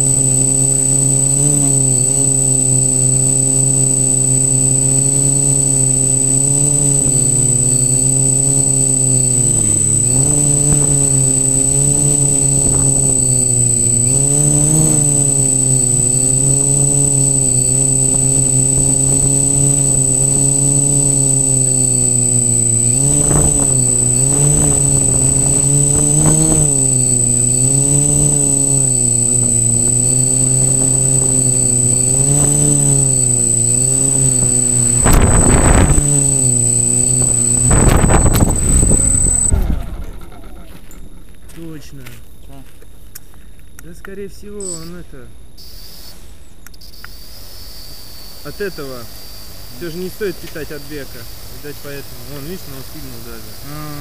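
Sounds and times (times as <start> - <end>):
drone propellers buzzing: 0.0 - 41.4, 46.9 - 54.0
high-pitched whine: 0.0 - 42.8, 44.3 - 54.0.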